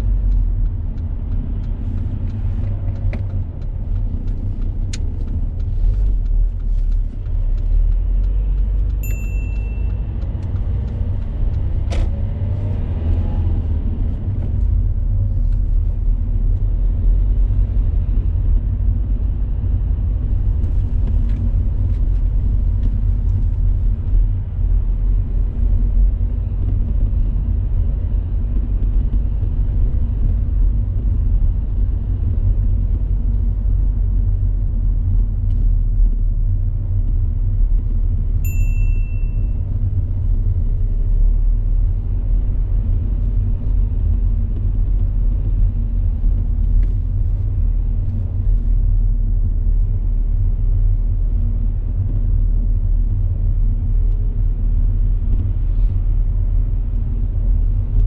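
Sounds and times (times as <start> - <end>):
engine and tyres rumbling: 0.0 - 58.0.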